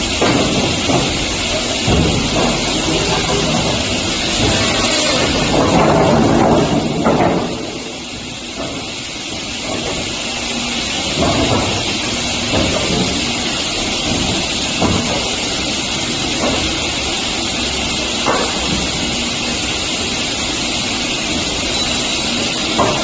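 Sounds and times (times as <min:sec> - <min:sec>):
wooden boards clunking: 0:00.0 - 0:19.6, 0:21.0 - 0:23.0
wood cut-off saw machine running: 0:00.0 - 0:23.0.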